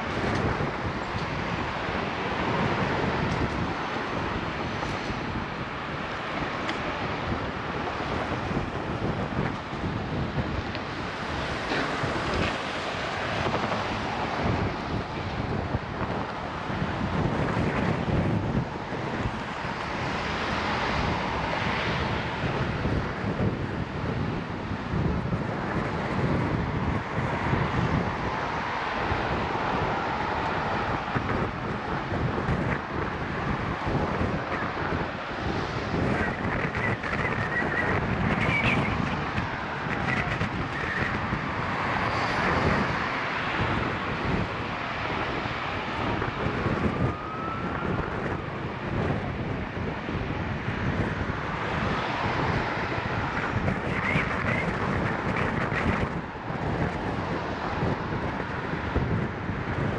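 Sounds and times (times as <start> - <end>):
traffic passing: 0.0 - 59.9
wind buffeting microphone: 0.0 - 59.9.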